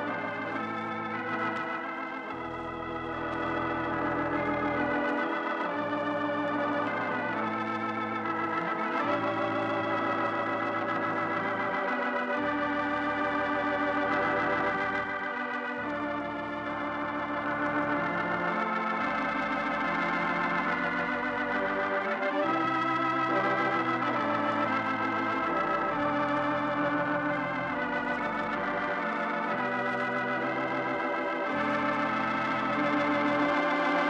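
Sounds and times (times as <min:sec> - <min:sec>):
organ chords with vibrato: 0:00.0 - 0:34.0.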